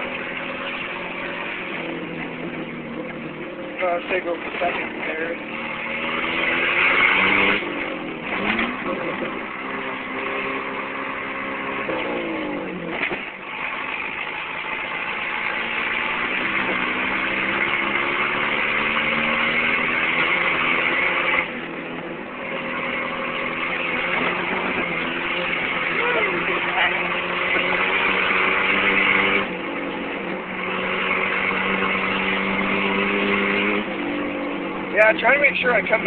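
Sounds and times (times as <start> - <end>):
car engine under load: 0.0 - 36.0.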